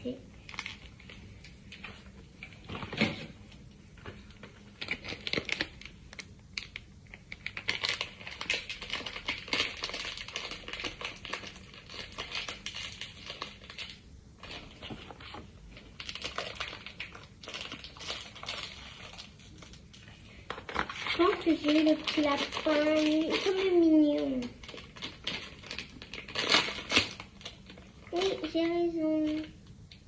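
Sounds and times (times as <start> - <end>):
wrapper crinkling and tearing: 0.4 - 1.9, 4.3 - 29.6.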